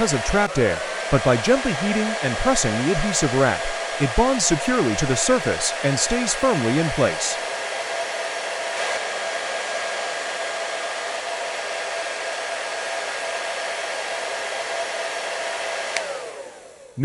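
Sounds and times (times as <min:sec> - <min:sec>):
hot-air blower whining: 0:00.0 - 0:17.0.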